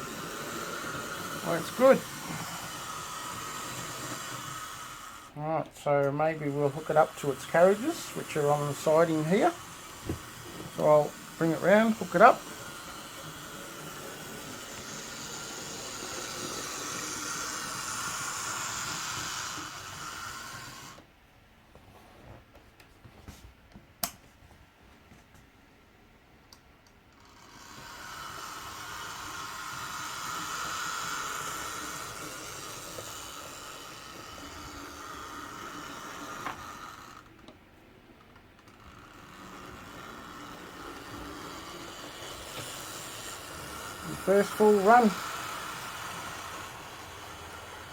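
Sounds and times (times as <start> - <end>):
model train motor whirring: 0.0 - 21.1, 27.1 - 47.9.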